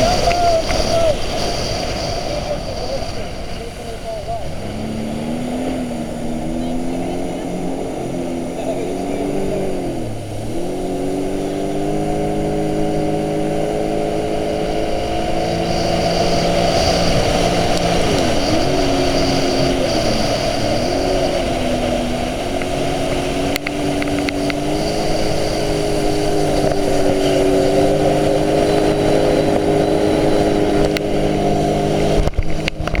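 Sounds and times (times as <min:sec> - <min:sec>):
jet ski engine running: 0:00.0 - 0:33.0.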